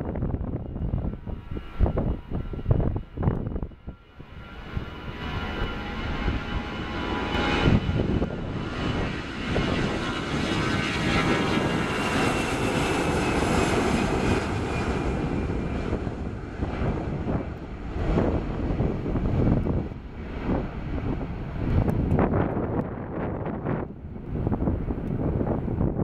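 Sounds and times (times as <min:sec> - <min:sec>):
jet engines at takeoff: 0:00.0 - 0:26.0
wind buffeting microphone: 0:00.0 - 0:26.0.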